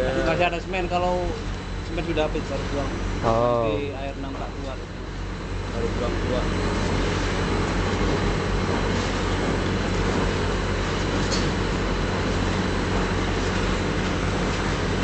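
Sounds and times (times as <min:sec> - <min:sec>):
mortar pump mixer humming: 0:00.0 - 0:15.0.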